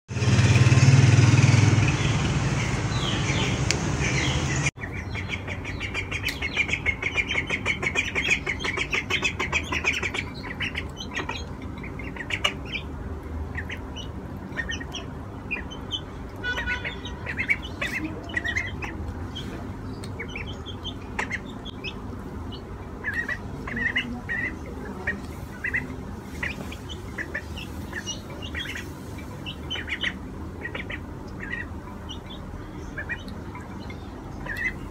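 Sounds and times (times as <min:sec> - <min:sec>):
ducklings and chicks peeping: 0:00.1 - 0:34.9
loud full steady sound: 0:00.1 - 0:34.9.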